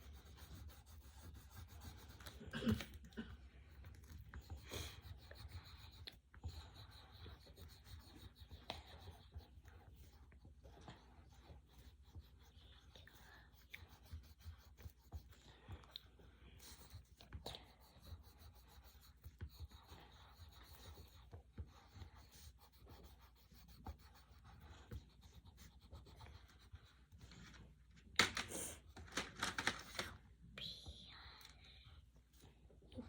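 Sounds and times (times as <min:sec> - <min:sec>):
pencil scratching on paper: 0:00.0 - 0:27.7.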